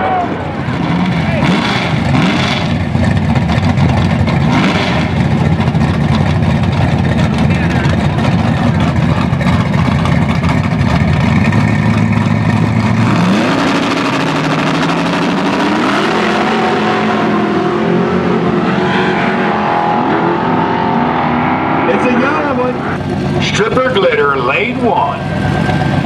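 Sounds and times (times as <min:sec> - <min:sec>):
drag car engines accelerating: 0:00.0 - 0:26.0.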